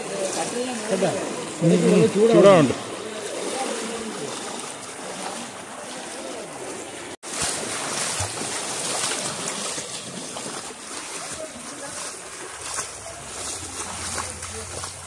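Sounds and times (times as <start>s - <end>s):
feet splashing through water: 0.0s - 15.0s.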